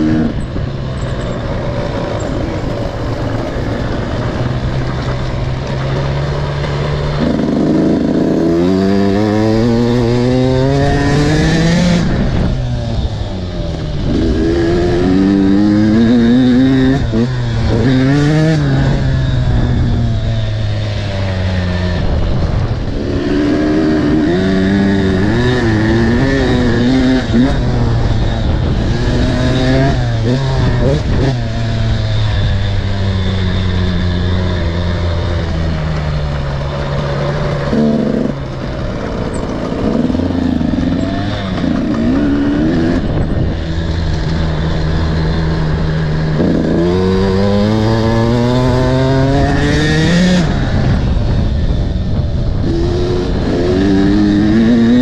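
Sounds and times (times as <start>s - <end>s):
motorcycle engine revving: 0.0s - 55.0s
wind rush on microphone: 6.8s - 36.5s, 37.5s - 55.0s.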